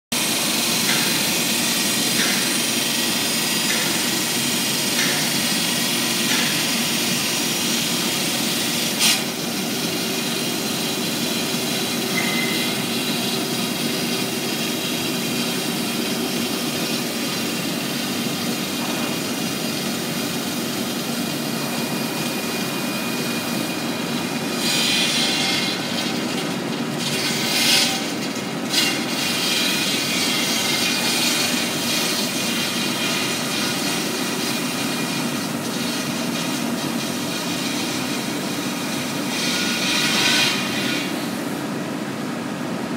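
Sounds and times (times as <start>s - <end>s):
stone cutting saw: 0.2s - 41.4s.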